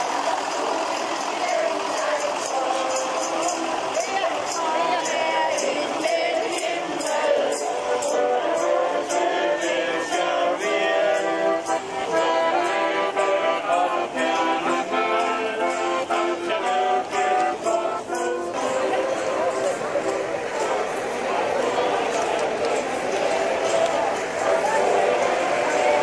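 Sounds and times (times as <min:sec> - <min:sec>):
band music: 0:00.0 - 0:26.0.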